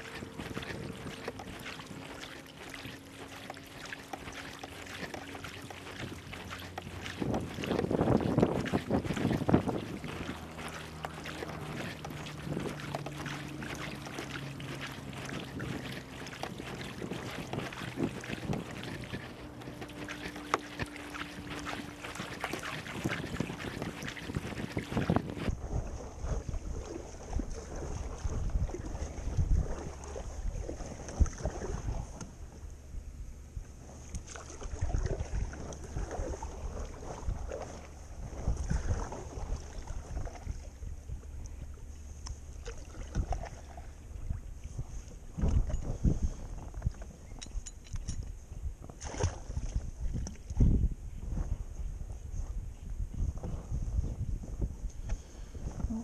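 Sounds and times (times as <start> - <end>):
kayak paddle splashing: 0.0 - 32.9, 33.5 - 47.3, 48.8 - 50.8
low steady hum: 0.0 - 56.0
wind buffeting microphone: 0.0 - 56.0.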